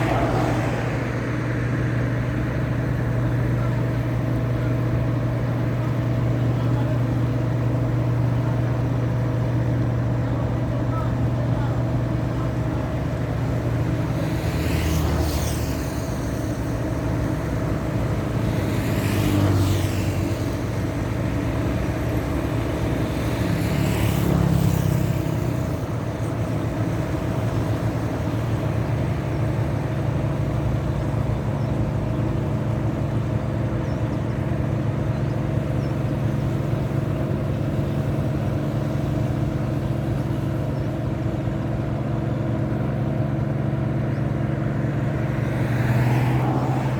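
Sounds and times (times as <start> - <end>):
diesel engine drone: 0.0 - 46.9
vehicles swishing past: 0.0 - 46.9.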